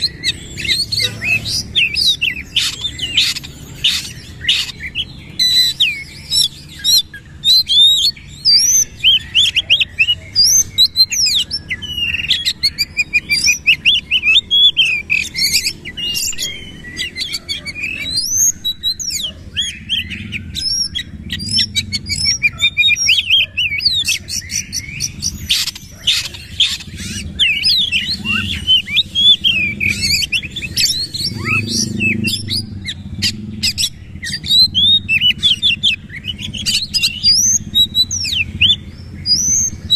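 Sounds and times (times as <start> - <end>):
bird singing whistled song: 0.0 - 39.9.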